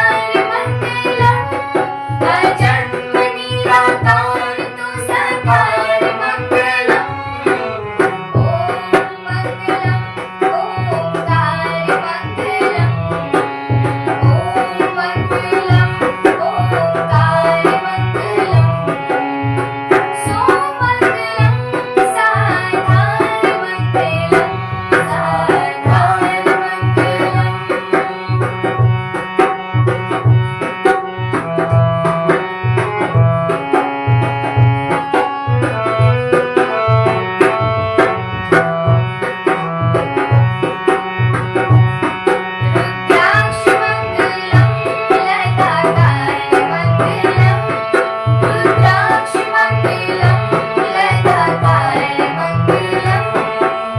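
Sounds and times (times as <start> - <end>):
hand drum beat: 0.0 - 53.7.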